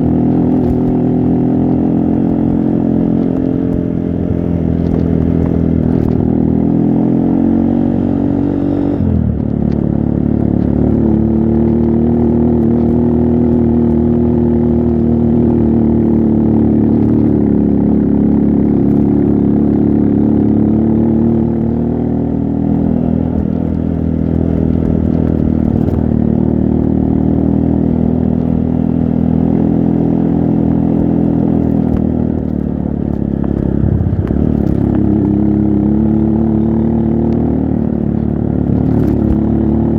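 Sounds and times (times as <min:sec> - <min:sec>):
motorcycle engine running under load: 0:00.0 - 0:39.9.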